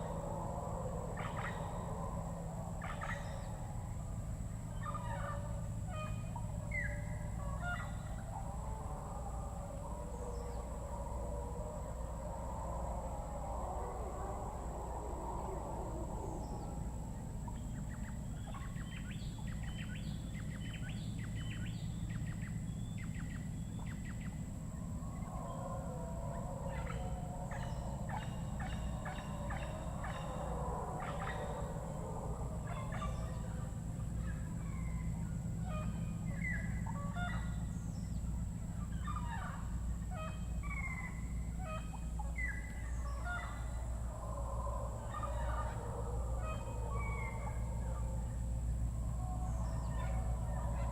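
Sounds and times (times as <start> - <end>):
insect whine: 0.0 - 50.9.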